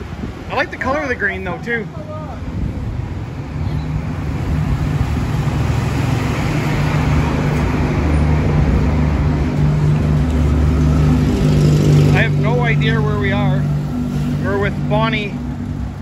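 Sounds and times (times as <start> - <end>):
road traffic: 0.0 - 16.0
vehicle engine humming: 0.0 - 16.0.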